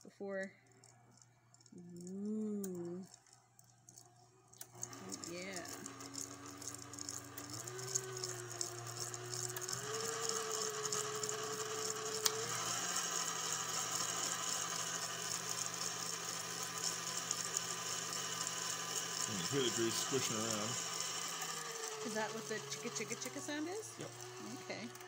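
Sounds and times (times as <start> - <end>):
stand mixer motor whine: 3.3 - 25.0.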